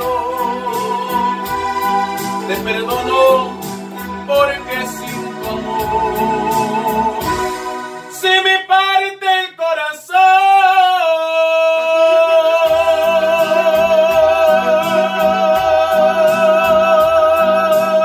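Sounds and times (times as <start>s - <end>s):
keyboard bass notes: 0.0s - 9.1s, 12.0s - 18.0s.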